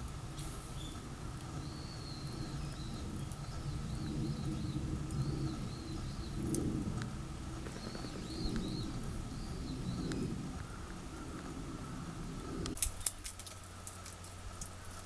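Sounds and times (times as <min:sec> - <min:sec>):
small bird chirping: 0:00.0 - 0:14.8
steady low rumble: 0:00.0 - 0:15.0.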